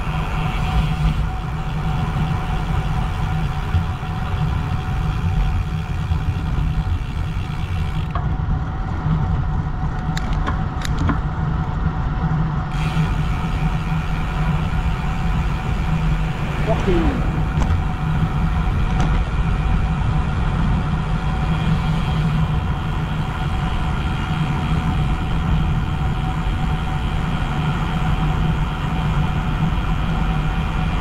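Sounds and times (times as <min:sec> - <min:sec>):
bicycle tyre road noise: 0:00.0 - 0:31.0.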